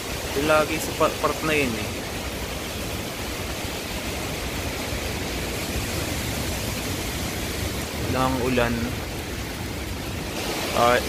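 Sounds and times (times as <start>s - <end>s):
strong wind hissing: 0.0s - 11.0s.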